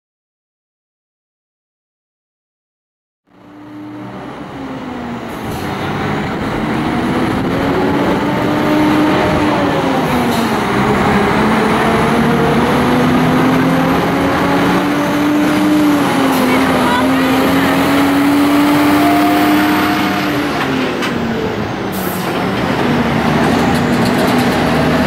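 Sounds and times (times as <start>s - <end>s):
truck diesel engine: 3.3s - 25.0s.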